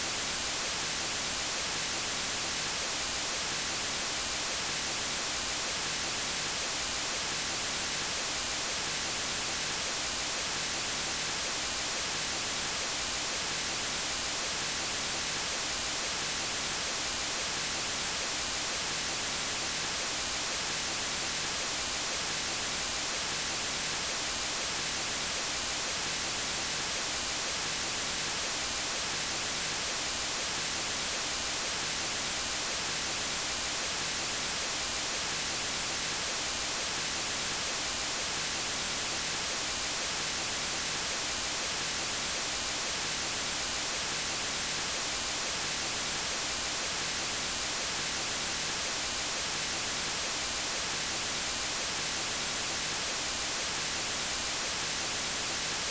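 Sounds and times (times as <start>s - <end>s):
white noise hiss: 0.0s - 55.9s.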